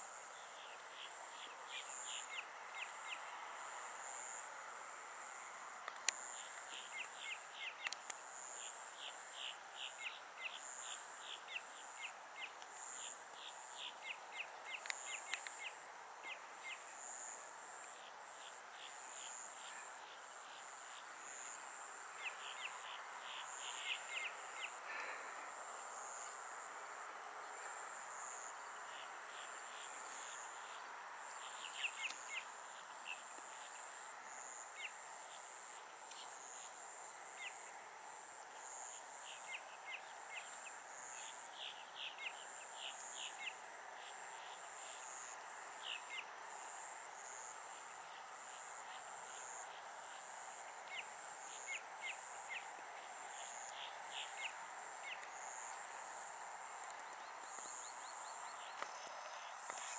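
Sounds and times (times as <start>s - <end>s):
faint background noise: 0.0s - 59.9s
insects trilling: 0.1s - 59.9s.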